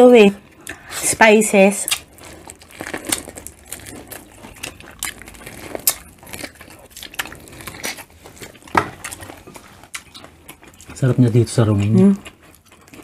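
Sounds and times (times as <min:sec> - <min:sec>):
chewing: 0:01.8 - 0:13.0.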